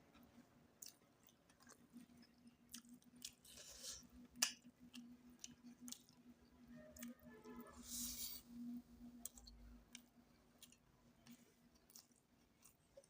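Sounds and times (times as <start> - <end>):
faint steady hum: 0.0 - 13.0
person chewing food: 0.1 - 7.2, 9.0 - 13.0.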